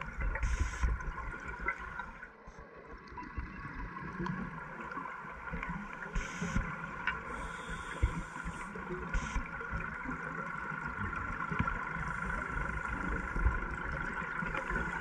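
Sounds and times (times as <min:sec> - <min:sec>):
regulator exhaust bubbles hissing: 0:00.0 - 0:02.2, 0:03.5 - 0:15.0
steady underwater whine: 0:00.0 - 0:15.0.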